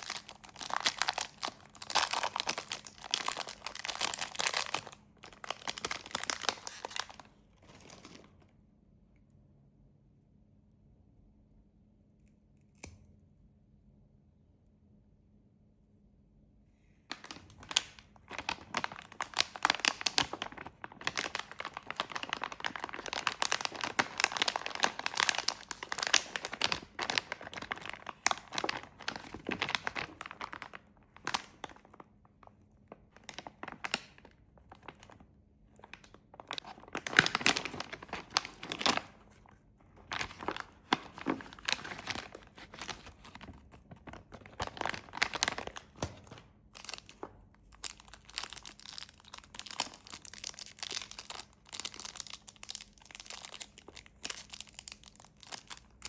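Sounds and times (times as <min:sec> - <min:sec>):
wrapper tearing: 0:00.0 - 0:08.3, 0:17.1 - 0:32.1, 0:33.0 - 0:35.2, 0:35.8 - 0:56.0
snack wrappers crinkling: 0:00.0 - 0:08.4, 0:17.1 - 0:56.0.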